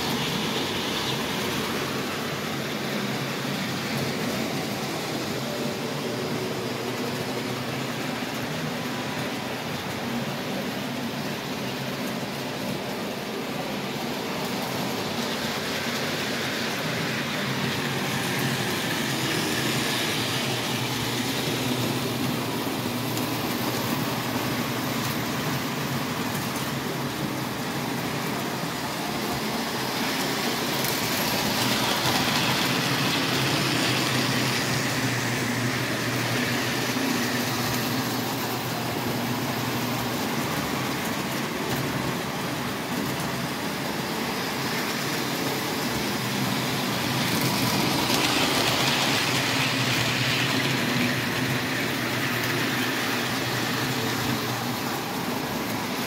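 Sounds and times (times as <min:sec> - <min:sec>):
model train wheels rumbling: 0:00.0 - 0:56.0.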